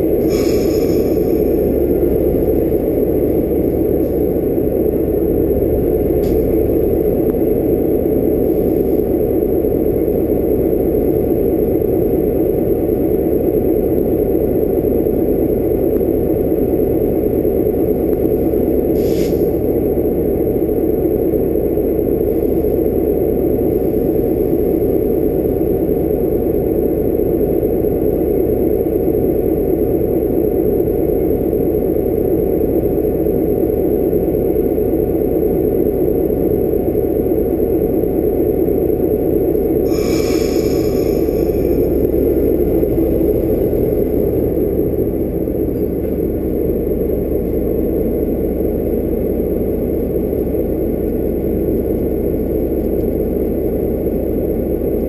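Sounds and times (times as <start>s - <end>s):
train idling drone: 0.0s - 55.0s.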